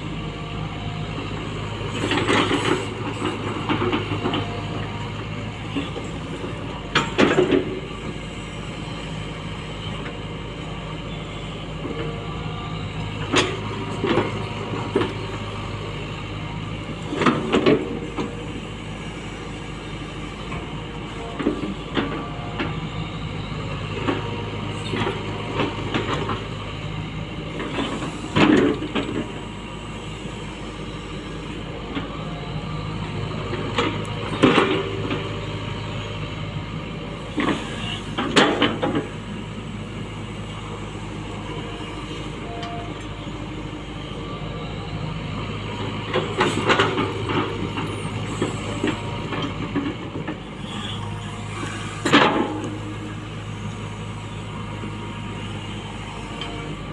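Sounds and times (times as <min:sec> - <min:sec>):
excavator diesel engine: 0:00.0 - 0:56.9.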